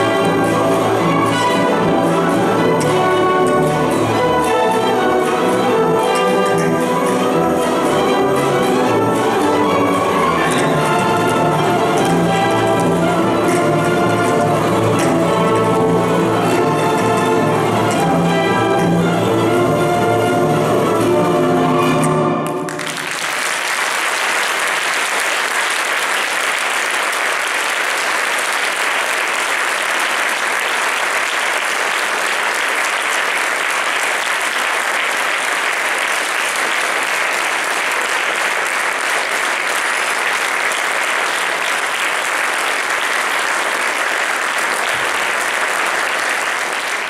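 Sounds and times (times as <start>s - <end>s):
audience applause: 0.0s - 14.9s, 22.4s - 47.0s.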